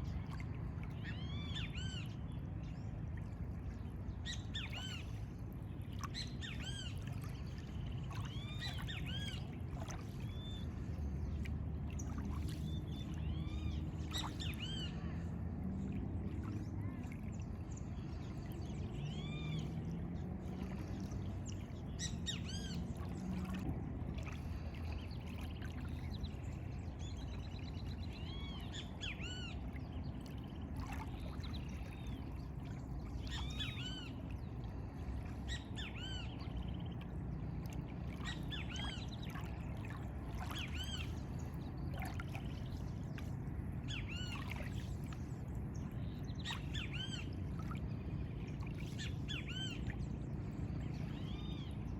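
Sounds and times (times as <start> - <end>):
water and wind noise: 0.0 - 51.9.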